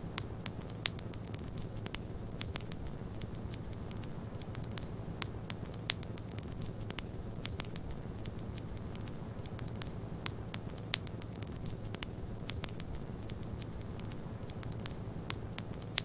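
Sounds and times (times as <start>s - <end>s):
low fire rumble: 0.0s - 16.0s
sharp pops from fire: 0.0s - 16.0s
wood fire crackling: 0.0s - 16.0s.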